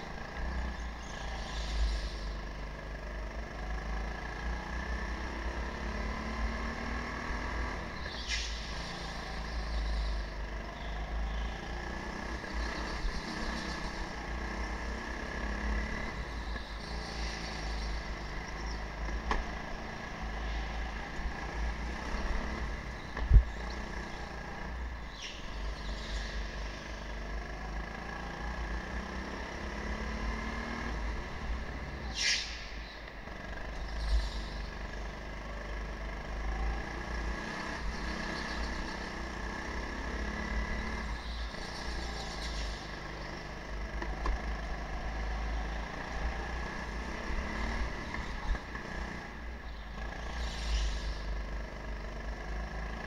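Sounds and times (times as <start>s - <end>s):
go-kart motor: 0.0s - 53.0s.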